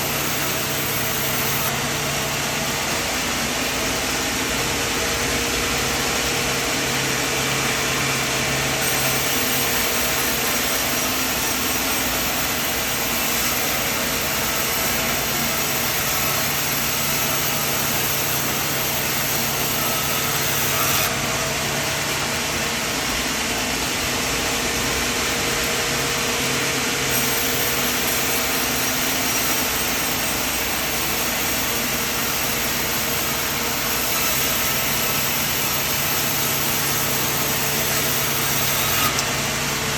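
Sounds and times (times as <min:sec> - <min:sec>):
sawmill cutting noise: 0:00.0 - 0:39.9
sawmill engine hum: 0:00.0 - 0:39.9.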